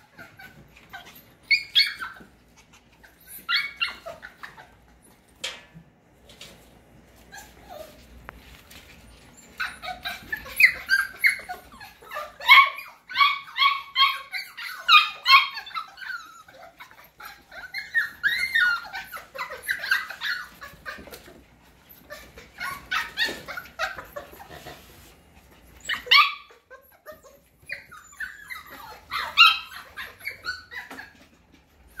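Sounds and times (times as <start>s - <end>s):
puppies yipping and barking: 0.0s - 5.4s, 7.1s - 32.0s.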